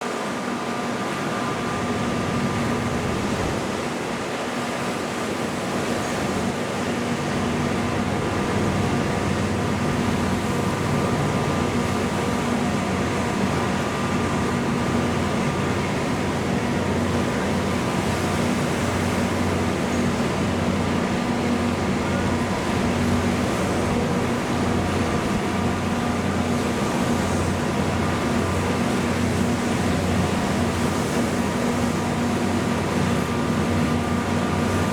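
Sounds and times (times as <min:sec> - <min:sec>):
marine engines droning: 0:00.0 - 0:34.9
constant hum: 0:00.2 - 0:34.9.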